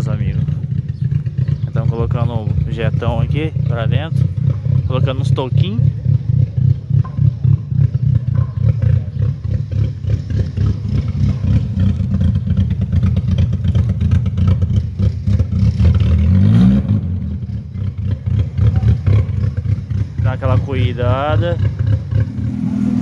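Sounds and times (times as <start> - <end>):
car engine with uneven exhaust rumble: 0.0 - 23.0.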